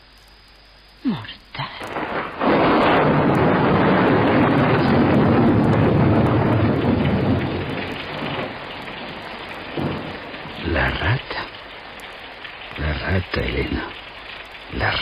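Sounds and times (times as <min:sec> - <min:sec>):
rain: 0:00.0 - 0:15.0
thunder rolling: 0:01.6 - 0:15.0.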